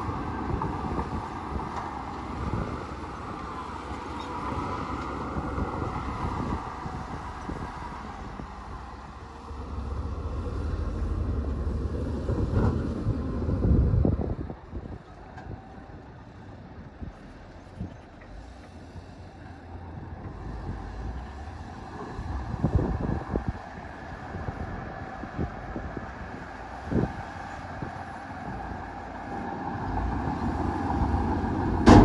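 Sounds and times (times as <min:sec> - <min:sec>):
heavy machinery diesel engine rumbling: 0:00.0 - 0:32.0.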